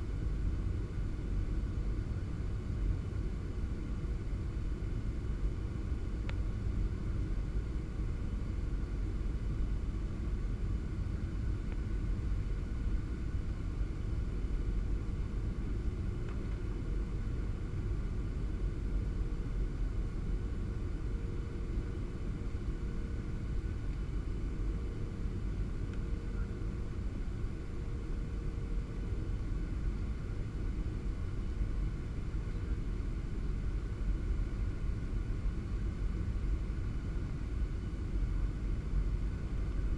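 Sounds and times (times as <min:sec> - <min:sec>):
faint steady engine tones: 0:00.0 - 0:39.9
jet engine cabin rumble: 0:00.0 - 0:39.9.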